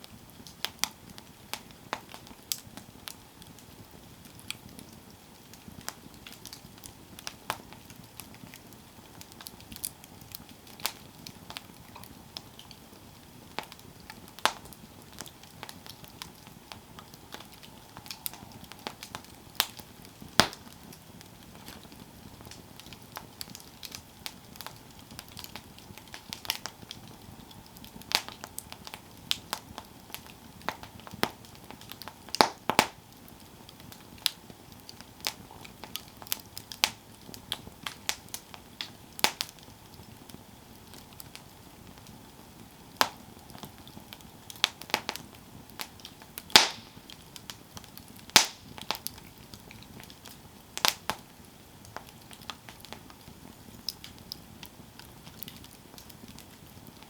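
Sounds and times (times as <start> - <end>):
campfire crackling and popping: 0.0 - 57.0
hiss of flames: 0.0 - 57.0.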